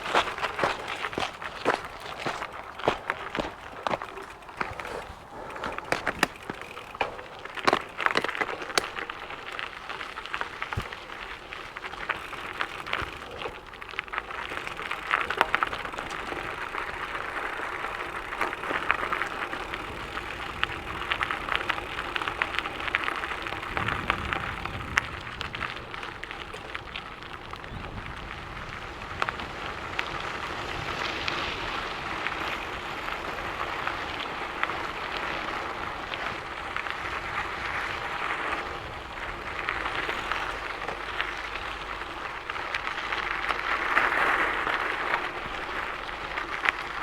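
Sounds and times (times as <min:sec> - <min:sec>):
stones and bike knocking: 0:00.0 - 0:28.3, 0:29.1 - 0:47.0
bike tyres crunching on gravel: 0:00.0 - 0:47.0.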